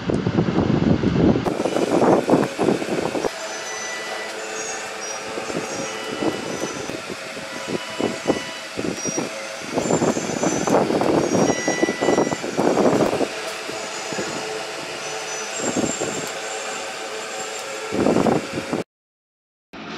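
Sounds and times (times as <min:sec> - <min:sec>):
steady background hum: 0:00.0 - 0:18.8.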